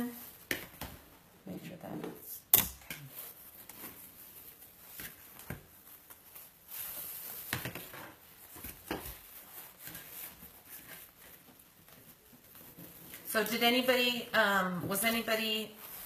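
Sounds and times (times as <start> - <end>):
ribbon rustling and crinkling: 3.0 - 16.0.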